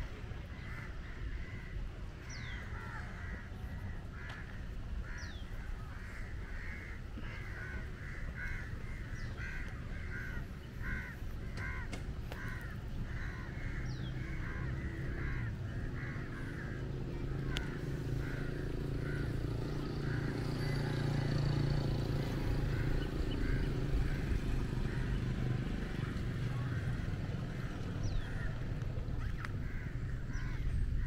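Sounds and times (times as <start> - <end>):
crows cawing: 0.5 - 31.0.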